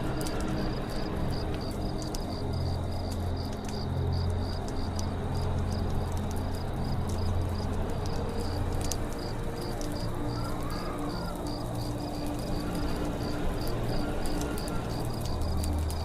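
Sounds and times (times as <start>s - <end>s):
campfire crackling and popping: 0.0s - 16.0s
cricket chirping: 0.1s - 16.0s.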